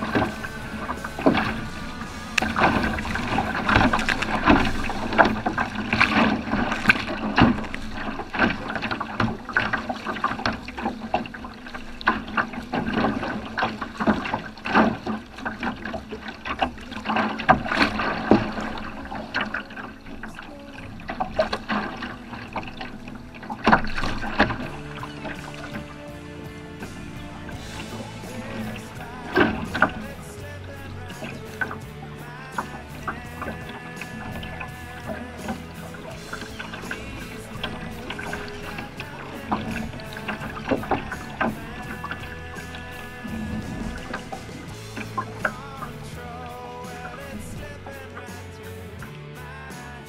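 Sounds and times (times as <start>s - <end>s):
paddle splashing water: 0.0s - 50.0s
water slapping kayak hull: 0.0s - 50.0s.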